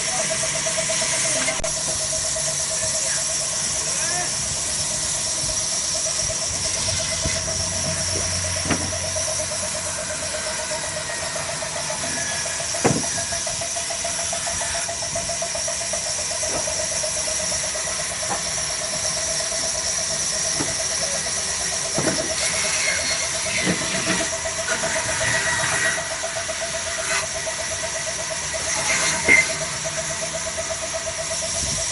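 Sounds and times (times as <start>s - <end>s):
diesel engine running: 0.0s - 31.9s
high squealing whine: 0.0s - 31.9s.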